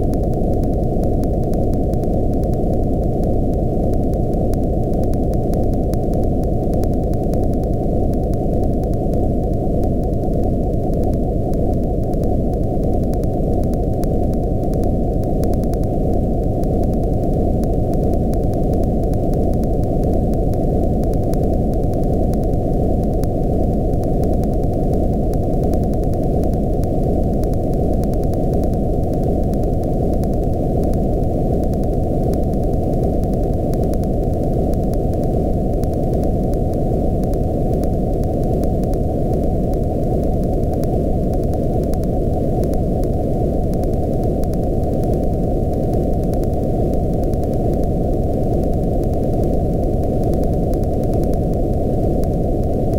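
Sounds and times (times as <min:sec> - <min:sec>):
low muffled electronic noise: 0:00.0 - 0:52.9.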